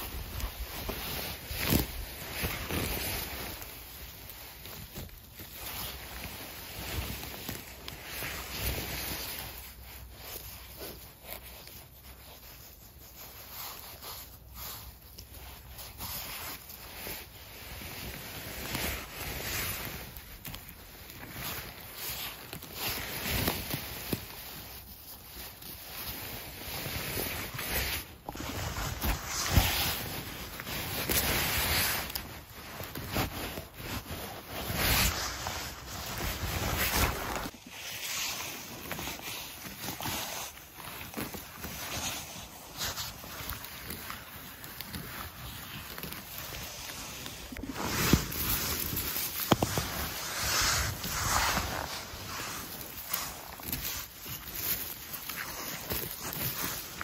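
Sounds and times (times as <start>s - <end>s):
gloved hand rustling through grass: 0.0s - 57.0s.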